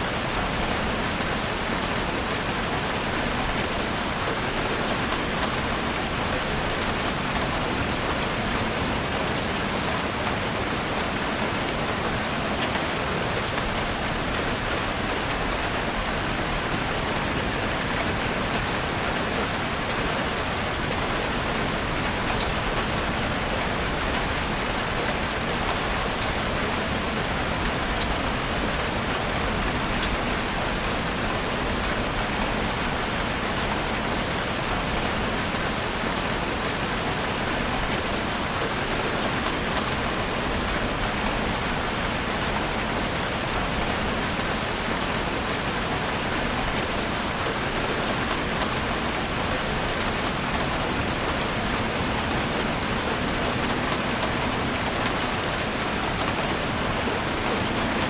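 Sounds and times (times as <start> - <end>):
heavy rain drumming on a roof: 0.0 - 58.0.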